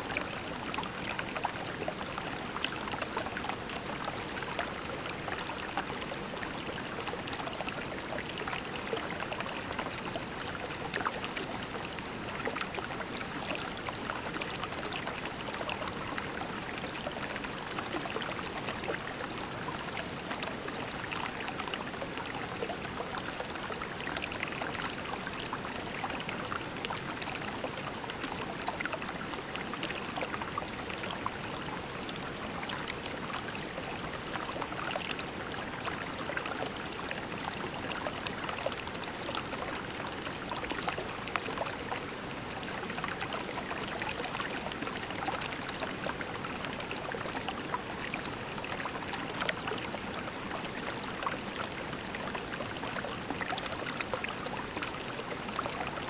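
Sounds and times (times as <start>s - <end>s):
creek babbling over pebbles: 0.0s - 56.0s.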